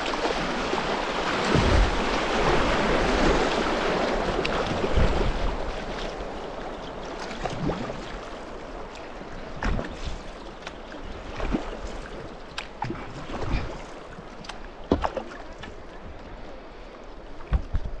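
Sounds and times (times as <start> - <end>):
paddle strokes splashing: 0.0 - 18.0
water rushing around a kayak: 0.0 - 18.0.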